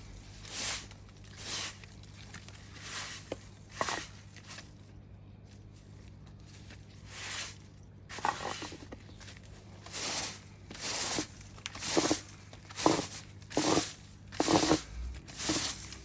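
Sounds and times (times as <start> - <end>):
stiff broom sweeping paving: 0.0 - 4.8, 5.6 - 16.0.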